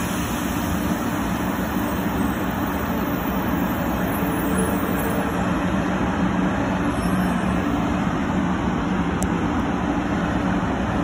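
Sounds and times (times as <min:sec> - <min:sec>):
electric train running hum: 0:00.0 - 0:11.0.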